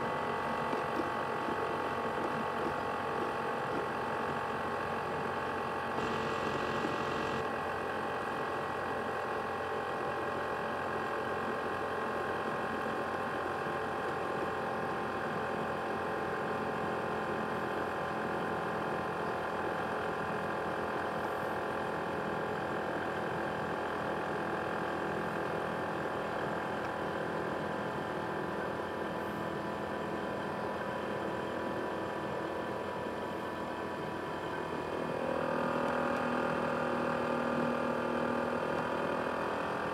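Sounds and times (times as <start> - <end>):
laptop cooling fan whining: 0.0 - 39.9.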